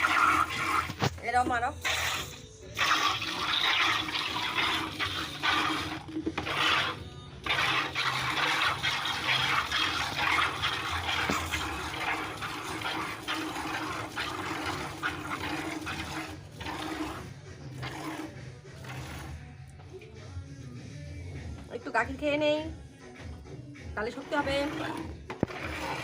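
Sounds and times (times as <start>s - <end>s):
milk squirting into a bucket: 0.0s - 20.2s, 24.1s - 26.0s.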